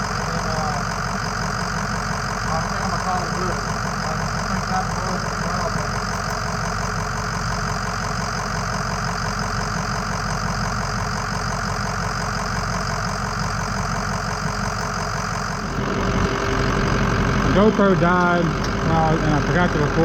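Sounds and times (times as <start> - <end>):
pickup truck engine idling: 0.0 - 20.0.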